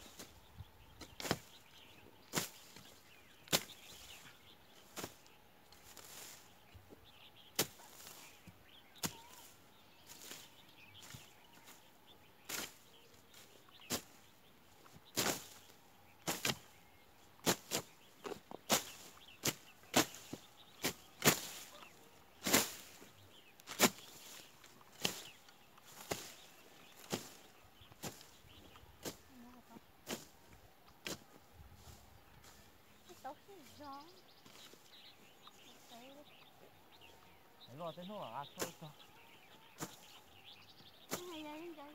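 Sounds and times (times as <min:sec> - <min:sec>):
blades swishing through dry grass: 0:00.0 - 0:37.3, 0:38.5 - 0:41.9.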